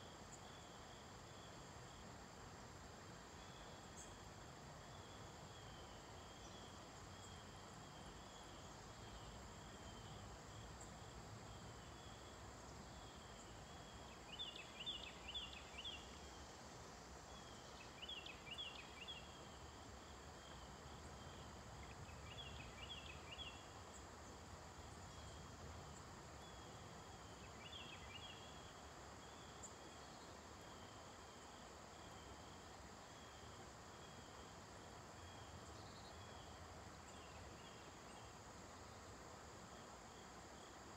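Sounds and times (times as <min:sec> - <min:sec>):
crickets trilling: 0:00.0 - 0:40.9
outdoor background hiss: 0:00.0 - 0:40.9.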